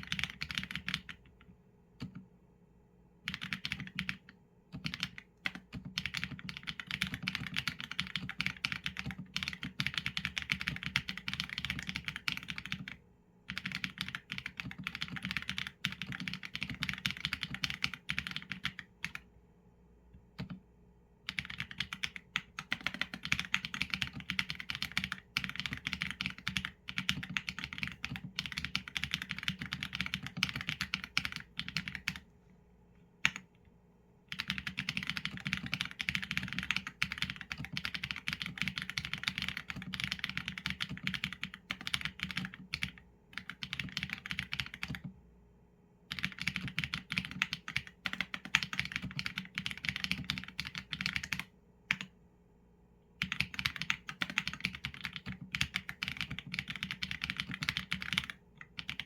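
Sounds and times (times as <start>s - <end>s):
mechanical keyboard typing: 0.0s - 1.4s, 3.3s - 19.2s, 20.4s - 20.6s, 21.3s - 32.2s, 34.3s - 45.1s, 46.1s - 52.1s, 53.2s - 59.0s.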